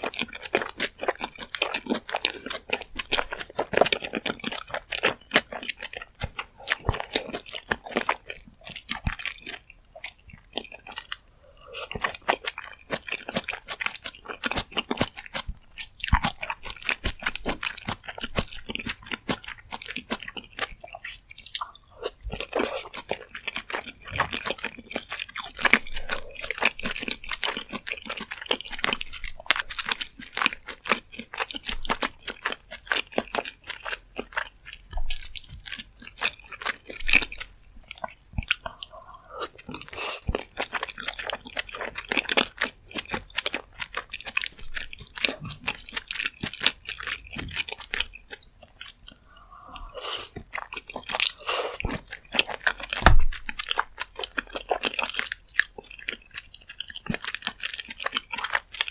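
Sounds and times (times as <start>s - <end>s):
wet chewing and smacking: 0.0s - 58.9s.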